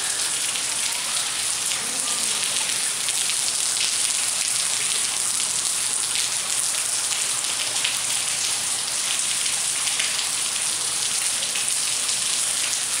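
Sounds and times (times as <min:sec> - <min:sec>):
water dripping onto concrete: 0:00.0 - 0:13.0.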